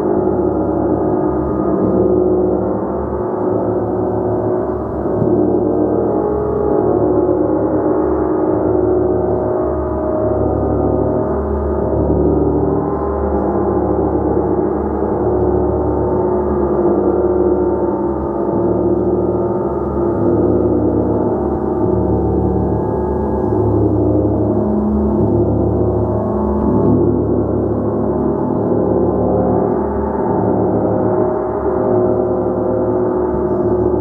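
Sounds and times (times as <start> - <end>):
gong shimmering: 0.0 - 34.0.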